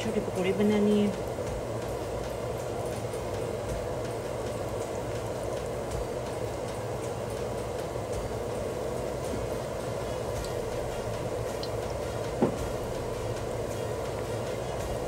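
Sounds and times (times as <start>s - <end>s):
batter deep-frying in hot oil: 0.0s - 15.0s.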